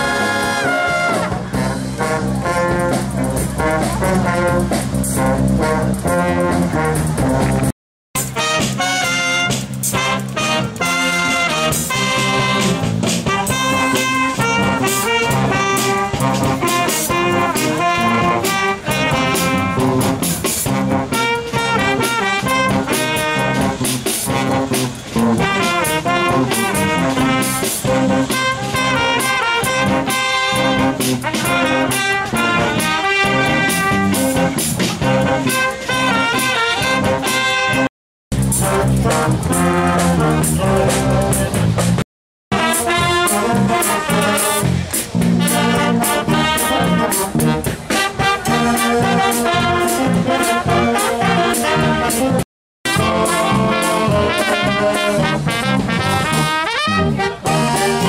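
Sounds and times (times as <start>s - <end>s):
trumpet solo: 0.0s - 7.6s, 8.2s - 41.6s, 42.5s - 58.0s
wind band playing: 0.0s - 58.0s.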